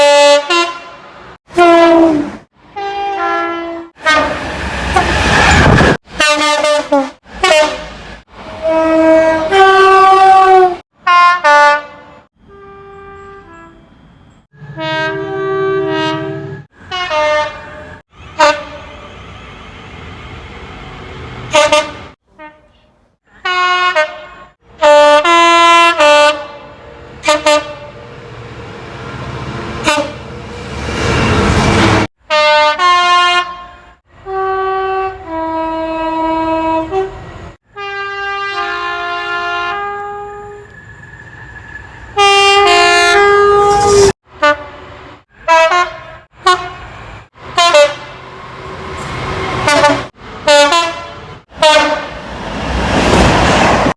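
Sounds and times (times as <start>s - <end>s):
train horn blasts: 0.0s - 8.0s, 8.6s - 19.1s, 21.5s - 28.0s, 29.7s - 30.3s, 31.0s - 40.8s, 42.2s - 52.2s
rush of passing train: 0.0s - 11.1s, 12.4s - 22.2s, 24.6s - 53.9s.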